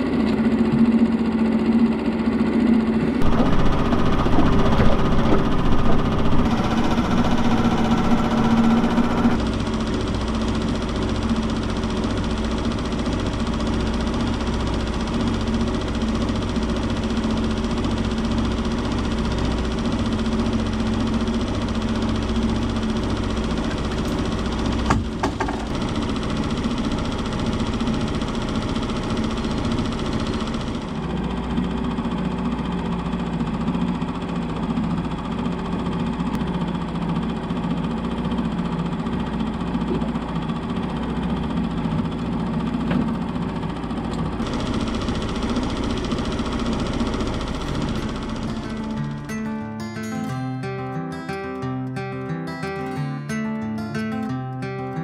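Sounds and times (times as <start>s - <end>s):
outboard motor running: 0.0s - 49.4s.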